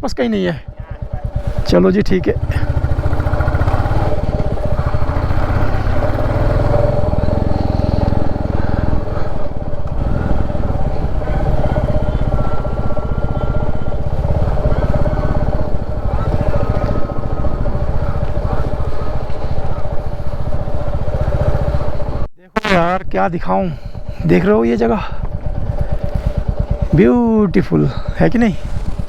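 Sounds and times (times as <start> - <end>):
motorcycle engine thumping: 0.0 - 22.3, 23.7 - 29.0.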